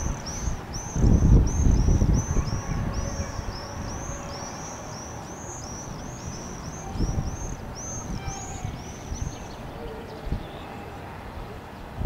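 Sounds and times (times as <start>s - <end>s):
bird chirping: 0.0s - 10.8s
wind on microphone: 0.0s - 12.0s.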